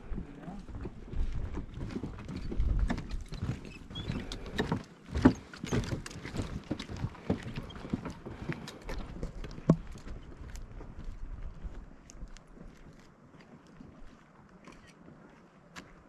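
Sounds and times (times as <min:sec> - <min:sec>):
footsteps on wooden boardwalk: 0:00.0 - 0:16.0.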